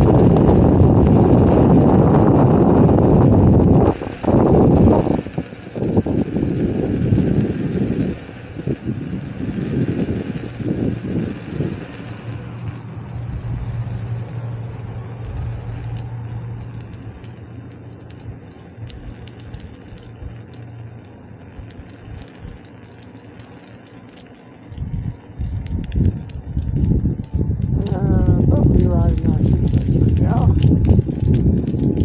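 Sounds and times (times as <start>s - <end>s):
wind buffeting microphone: 0.0s - 22.9s, 24.7s - 32.0s
motor vehicle hum: 0.0s - 32.0s.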